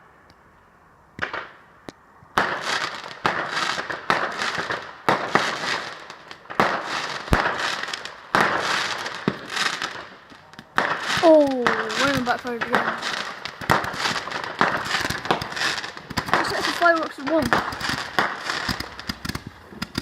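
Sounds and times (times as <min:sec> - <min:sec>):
fireworks banging and crackling: 0:01.2 - 0:20.0.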